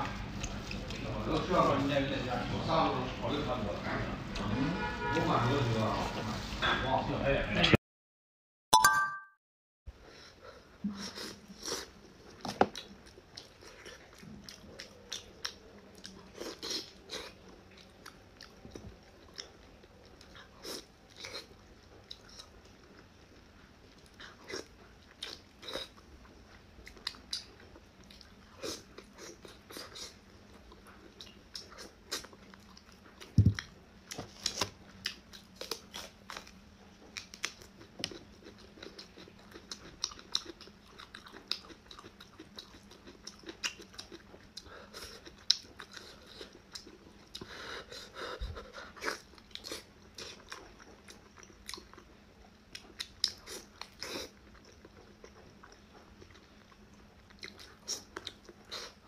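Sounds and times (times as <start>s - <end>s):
wet chewing: 11.0s - 59.0s.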